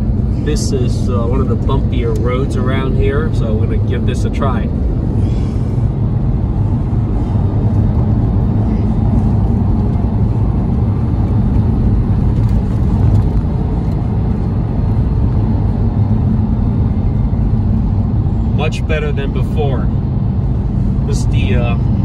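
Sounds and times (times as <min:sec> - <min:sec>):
car engine rumble: 0:00.0 - 0:22.0
tyres on bumpy road: 0:00.0 - 0:22.0.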